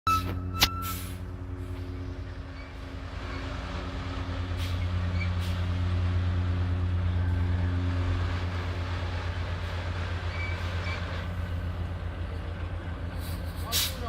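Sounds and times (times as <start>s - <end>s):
truck engine humming: 0.1s - 14.0s.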